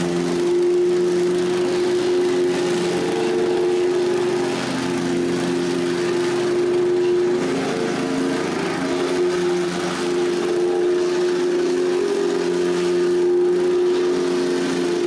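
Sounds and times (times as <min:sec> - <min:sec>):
plate compactor engine running: 0:00.0 - 0:15.0.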